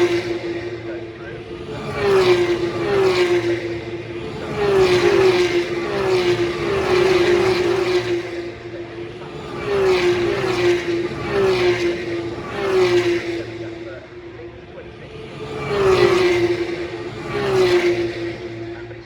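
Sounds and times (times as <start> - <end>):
racing cars passing by: 0.0 - 19.0.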